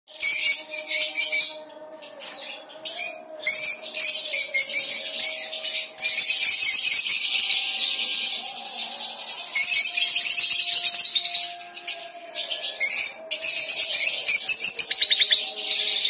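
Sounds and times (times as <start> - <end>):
parrots chattering and chirping: 2.4 - 16.0.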